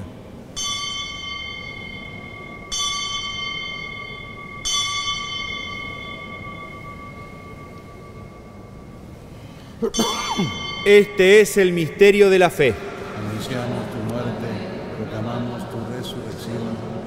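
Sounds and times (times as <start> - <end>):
altar bell ringing: 0.0 - 16.8.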